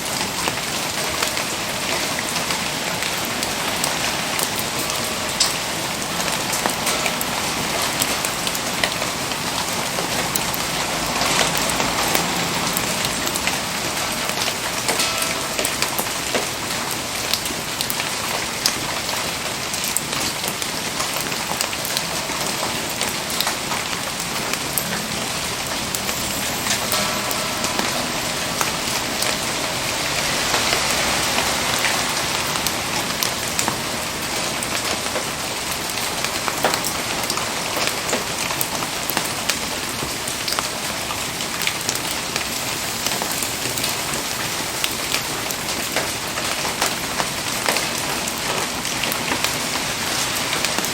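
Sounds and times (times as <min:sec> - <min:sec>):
rain pattering on surfaces: 0:00.0 - 0:50.9.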